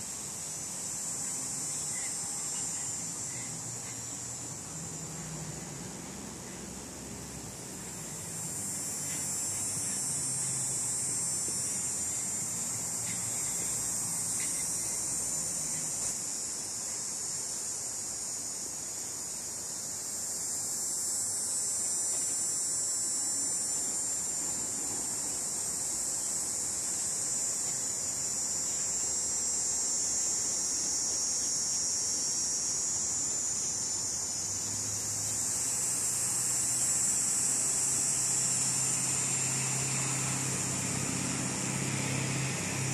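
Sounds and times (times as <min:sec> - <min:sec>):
insects buzzing: 0:00.0 - 0:42.9.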